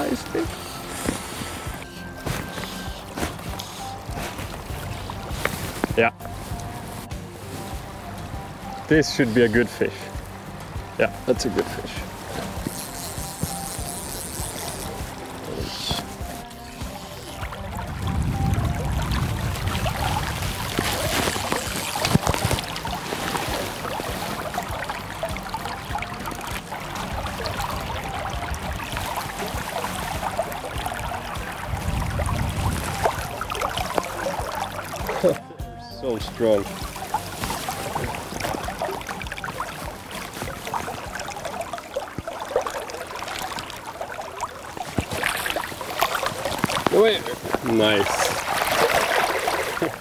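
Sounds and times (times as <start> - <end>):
river water running and splashing: 0.0 - 50.0
sharp splash: 7.4 - 35.5, 36.1 - 50.0.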